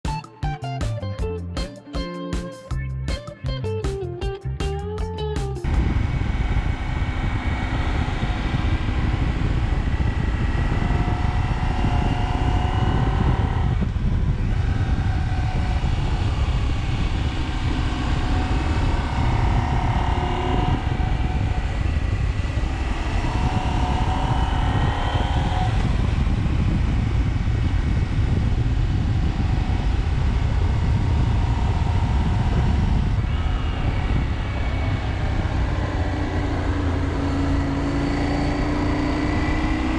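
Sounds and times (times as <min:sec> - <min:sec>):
motorcycle engine accelerating: 0:00.0 - 0:39.9
wind and road noise: 0:03.9 - 0:39.9.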